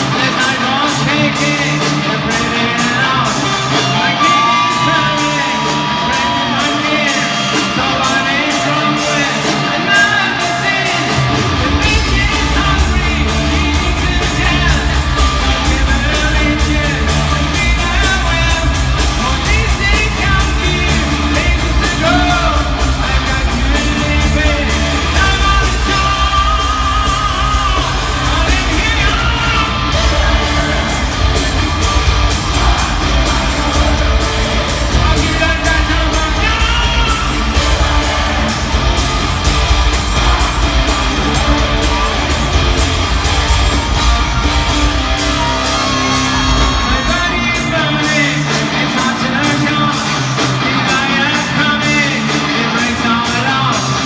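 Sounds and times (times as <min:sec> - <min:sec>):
man singing: 0:00.0 - 0:39.0, 0:40.1 - 0:54.0
hard rock song: 0:00.0 - 0:54.0.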